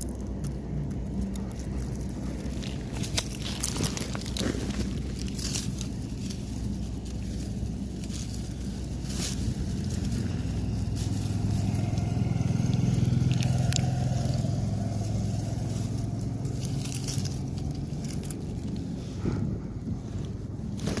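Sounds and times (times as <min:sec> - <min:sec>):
crackles and scrapes: 0:00.0 - 0:21.0
vehicle engine hum: 0:00.0 - 0:21.0.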